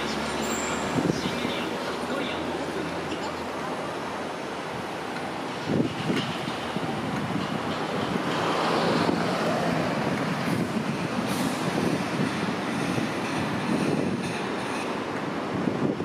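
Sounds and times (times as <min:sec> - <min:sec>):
road traffic: 0:00.0 - 0:16.0
tram wheels and motor rumbling: 0:00.0 - 0:16.0.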